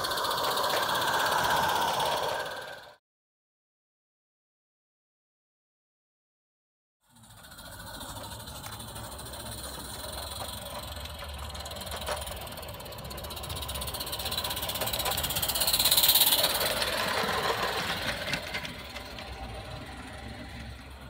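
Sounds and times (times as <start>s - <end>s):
steam locomotive hissing: 0.0s - 3.0s, 7.1s - 21.0s.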